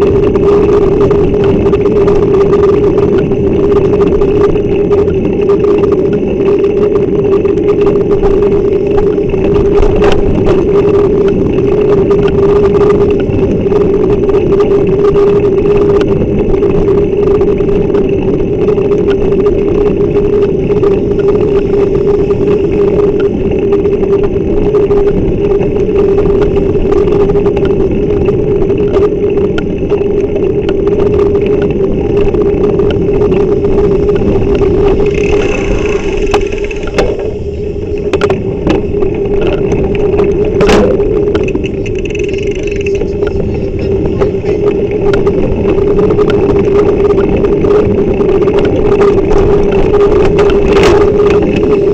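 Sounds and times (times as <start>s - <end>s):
constant low hum: 0.0s - 51.9s
high whine: 0.0s - 51.9s
wind and road noise: 0.0s - 51.9s.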